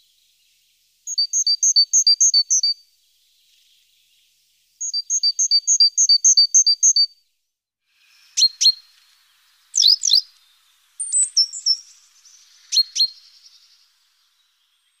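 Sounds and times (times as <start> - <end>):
small birds chirping: 0.0 - 7.2, 8.0 - 15.0.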